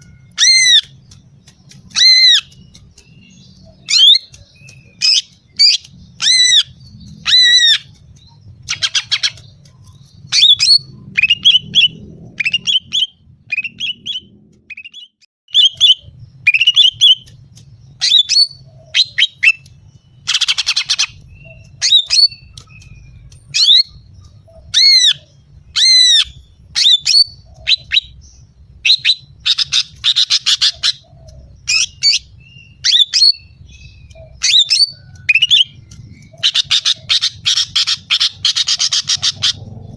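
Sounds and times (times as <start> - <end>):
bird whistled calls: 0.0 - 8.0, 8.7 - 17.3, 18.0 - 28.2, 28.8 - 39.7.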